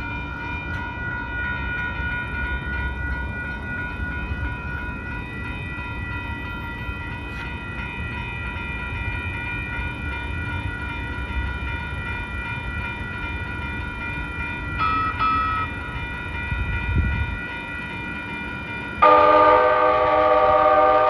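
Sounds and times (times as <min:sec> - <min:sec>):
high-pitched ringing tones: 0:00.0 - 0:21.0
light rail train rumbling: 0:00.0 - 0:21.0.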